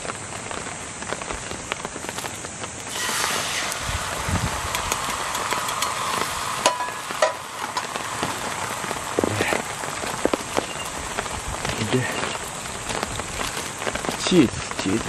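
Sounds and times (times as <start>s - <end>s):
crackles: 0.0s - 15.0s
egg sizzling in oil: 2.0s - 14.3s.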